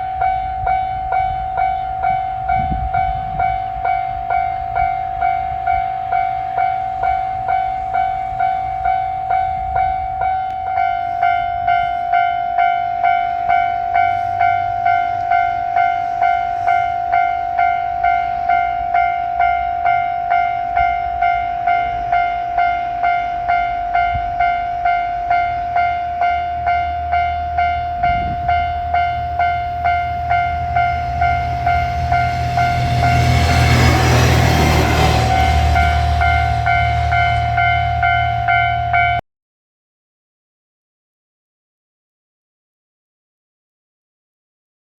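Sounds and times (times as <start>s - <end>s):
diesel railcar engine rumble: 0.0s - 39.2s
level crossing warning bell ringing: 0.0s - 39.2s.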